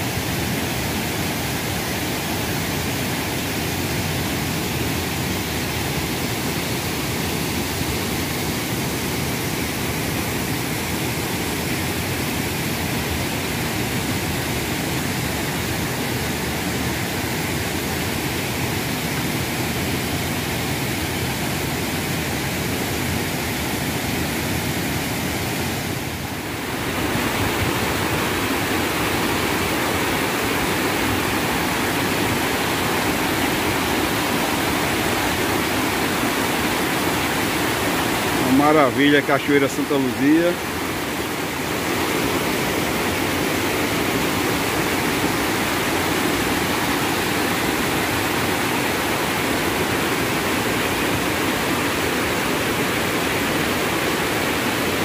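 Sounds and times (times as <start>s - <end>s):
waterfall and rapids rushing: 0.0s - 55.0s.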